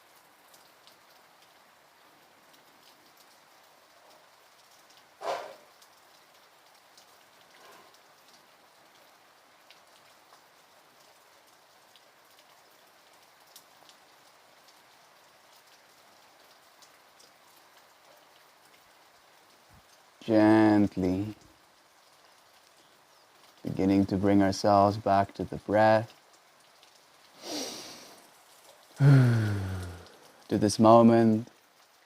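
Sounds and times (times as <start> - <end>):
light rain patter: 0.0 - 32.0.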